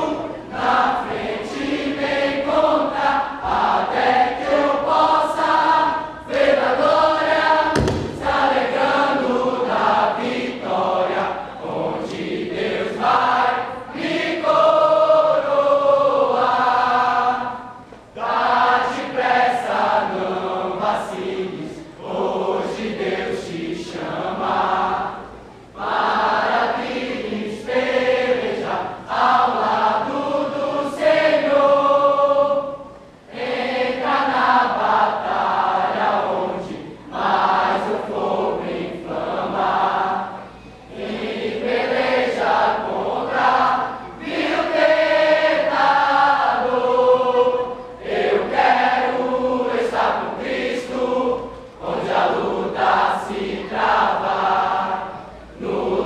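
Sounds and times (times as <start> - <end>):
youth choir singing: 0.0 - 56.0.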